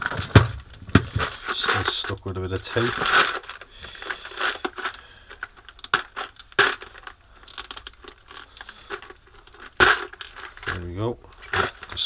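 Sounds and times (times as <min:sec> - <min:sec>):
rivets rattling in case: 0:00.0 - 0:12.0.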